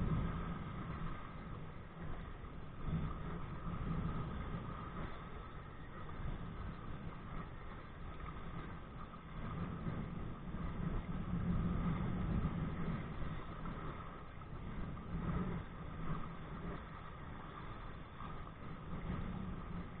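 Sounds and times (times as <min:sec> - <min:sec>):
water noise: 0:00.0 - 0:20.0
wind buffeting camera: 0:00.0 - 0:20.0.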